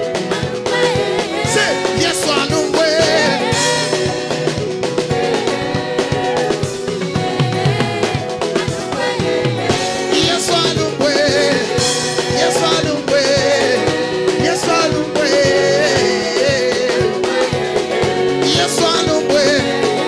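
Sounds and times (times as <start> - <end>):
choir singing: 0.0 - 20.0
instrumental backing with steady beat: 0.0 - 20.0
lead singer: 0.0 - 20.0.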